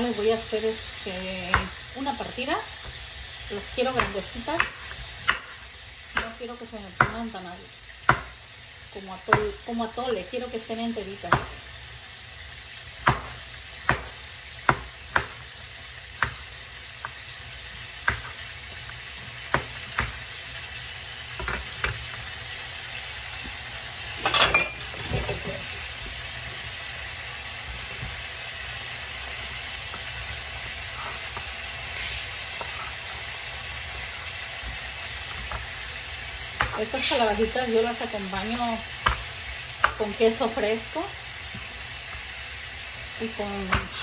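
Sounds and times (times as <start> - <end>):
vegetables sizzling in a pan: 0.0 - 44.0.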